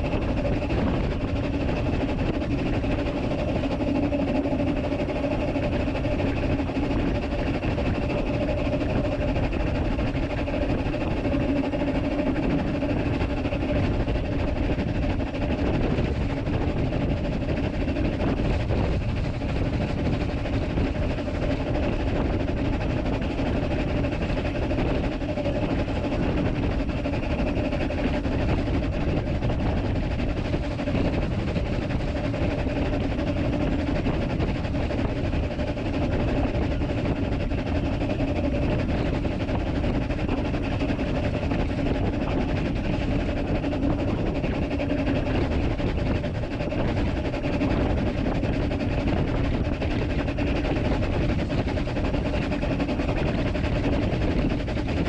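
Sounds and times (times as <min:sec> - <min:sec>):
faint steady hum: 0:00.0 - 0:55.0
steam locomotive rumbling: 0:00.0 - 0:55.0.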